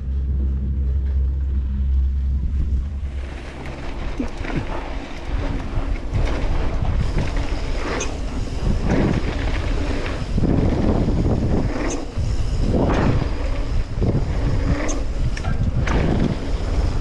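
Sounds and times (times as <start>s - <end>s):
wind buffeting microphone: 0.0s - 17.0s
bike clattering over bumps: 3.0s - 17.0s.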